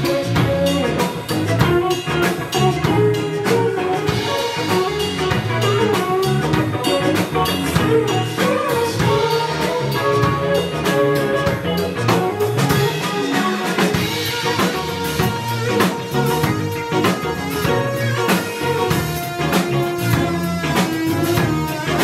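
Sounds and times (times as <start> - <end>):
drum kit: 0.0 - 22.0
electric guitar: 0.0 - 22.0
keyboard: 0.0 - 22.0.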